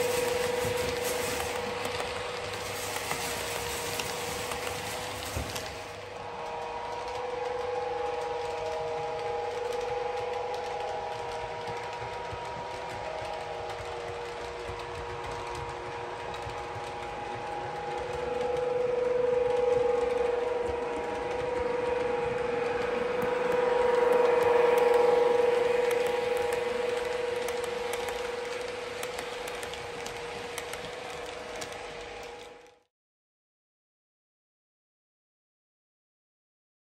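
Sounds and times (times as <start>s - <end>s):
model train motor whine: 0.0s - 32.8s.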